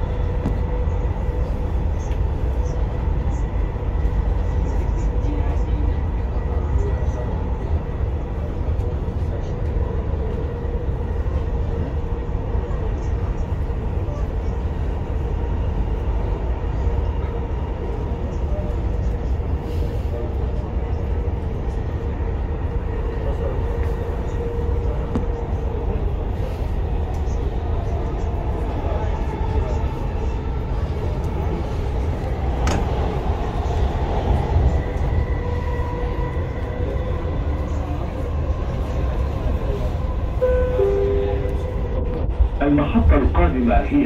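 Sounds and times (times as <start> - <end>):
train rumble inside carriage: 0.0 - 44.0.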